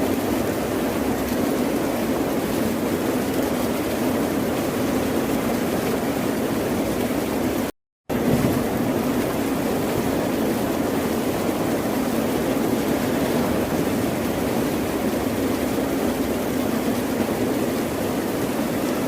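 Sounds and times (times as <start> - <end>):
ocean surf rushing: 0.0 - 19.0.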